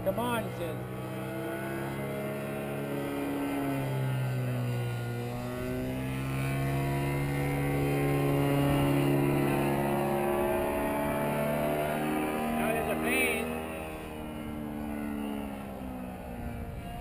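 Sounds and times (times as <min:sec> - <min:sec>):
paramotor engine droning overhead: 0:00.0 - 0:17.0.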